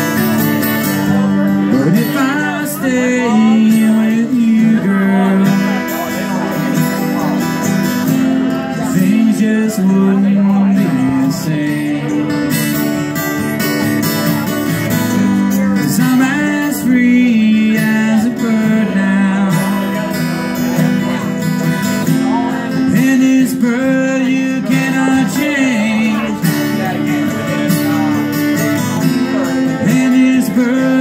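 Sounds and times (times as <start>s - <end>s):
strummed acoustic guitar chords: 0.0s - 31.0s.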